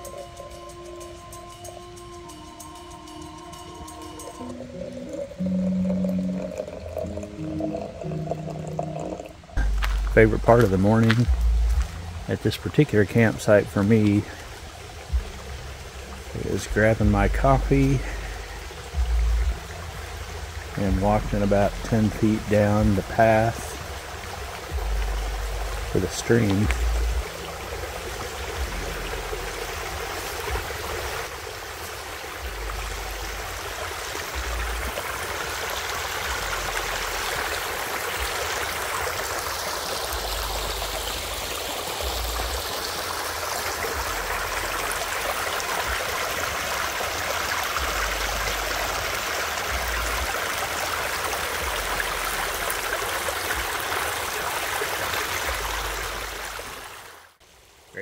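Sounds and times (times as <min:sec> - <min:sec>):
stream babbling over stones: 0:02.8 - 0:58.0.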